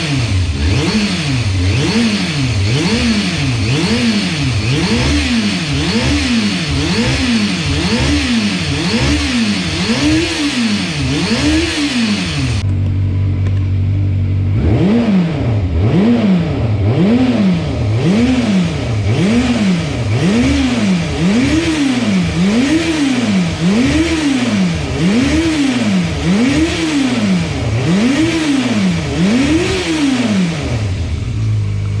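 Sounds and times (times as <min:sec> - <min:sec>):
motorcycle engine idling: 0:00.0 - 0:14.6, 0:16.4 - 0:32.0
motorcycle engine revving: 0:00.0 - 0:32.0.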